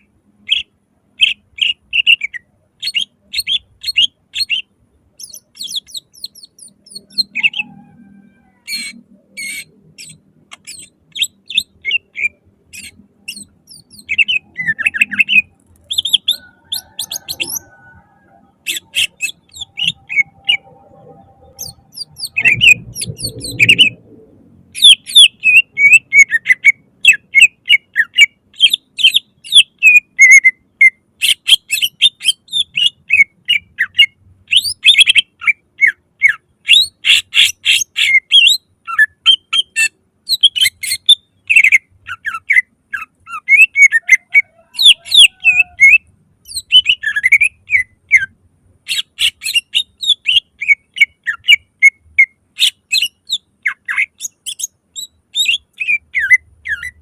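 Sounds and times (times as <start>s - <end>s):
bird whistling and chirping: 0.5s - 24.0s, 24.8s - 57.0s.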